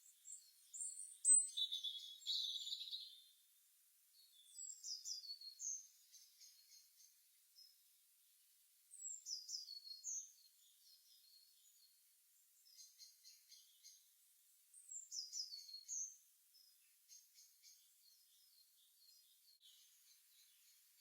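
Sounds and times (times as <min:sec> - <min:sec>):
soft bird chirps: 0:00.0 - 0:03.4, 0:04.1 - 0:08.0, 0:08.9 - 0:21.0
songbird phrases: 0:00.0 - 0:03.4, 0:04.1 - 0:21.0.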